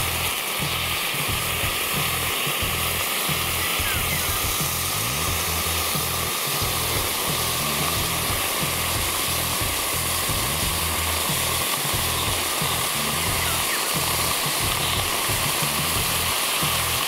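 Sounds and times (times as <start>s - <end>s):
background music with bass line: 0.0s - 17.0s
hot metal ball sizzling: 0.0s - 17.0s.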